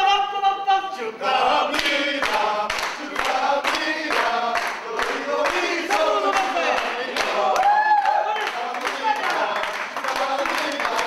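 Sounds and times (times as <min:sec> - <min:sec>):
men chanting together: 0:01.0 - 0:07.7, 0:08.4 - 0:11.0
rhythmic clapping: 0:01.3 - 0:11.0.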